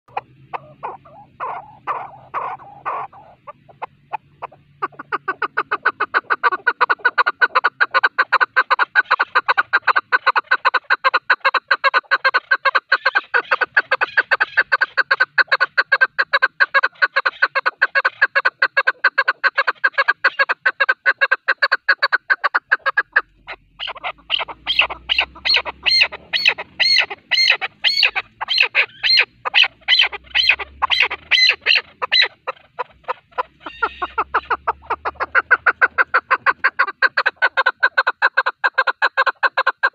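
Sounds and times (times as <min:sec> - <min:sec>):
partridge calling: 0:00.1 - 0:39.9.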